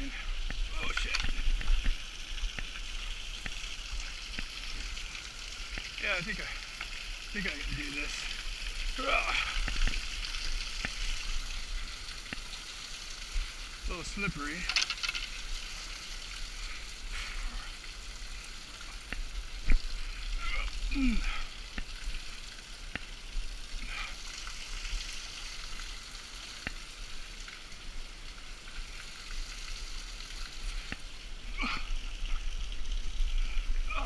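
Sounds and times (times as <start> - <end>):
creek running: 0.0 - 34.0.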